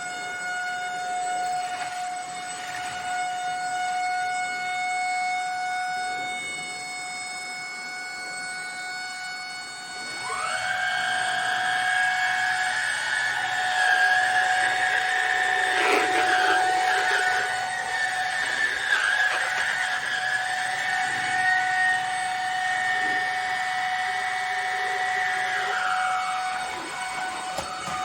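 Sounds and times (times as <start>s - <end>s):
motor spinning up whine: 0.0s - 28.0s
vacuum cleaner motor whining: 0.0s - 28.0s.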